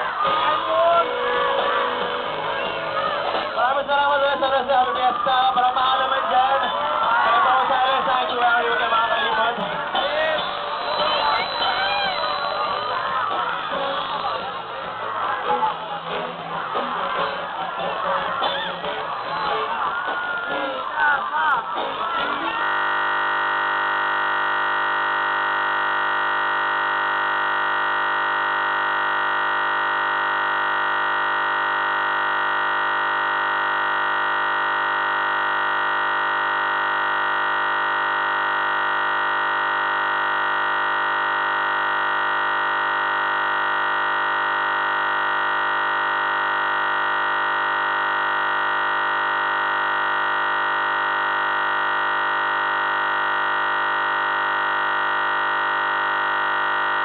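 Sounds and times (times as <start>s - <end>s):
electronic buzzing drone: 0.0s - 3.6s, 6.0s - 57.0s.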